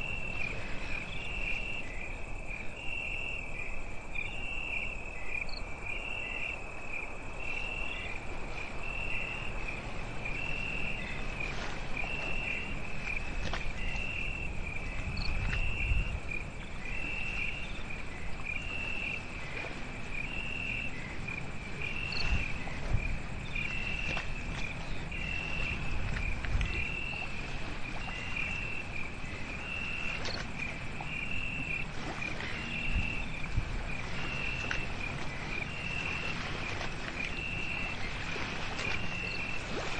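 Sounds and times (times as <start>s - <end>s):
crickets chirping: 0.0s - 39.9s
steady high insect trill: 0.0s - 39.9s.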